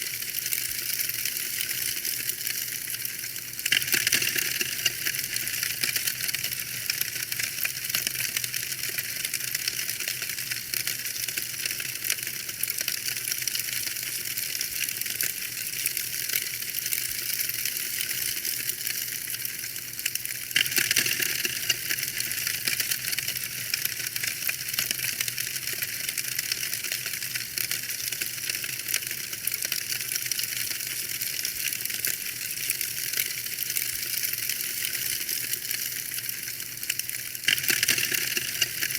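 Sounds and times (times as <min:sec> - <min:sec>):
fire crackling in a fireplace: 0:00.0 - 0:38.9.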